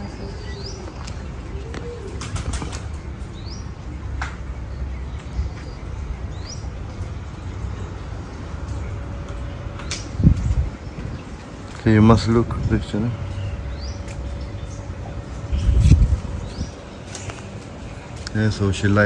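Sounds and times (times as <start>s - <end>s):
bird chirping: 0.0s - 18.1s.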